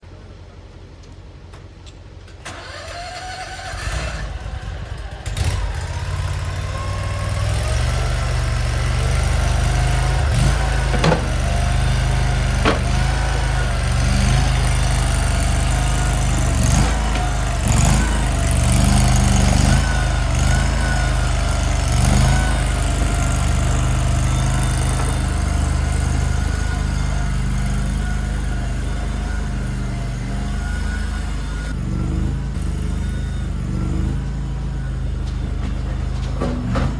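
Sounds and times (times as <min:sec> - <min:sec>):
mini skid steer engine running: 0:02.3 - 0:36.9.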